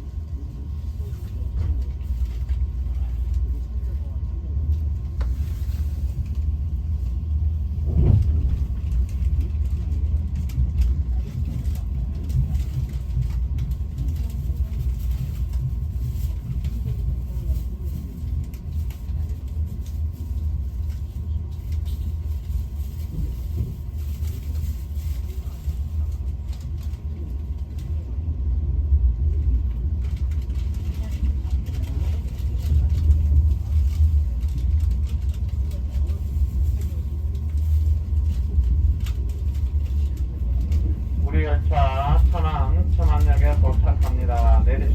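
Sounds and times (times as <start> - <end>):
train rumbling on track: 0.0 - 44.9.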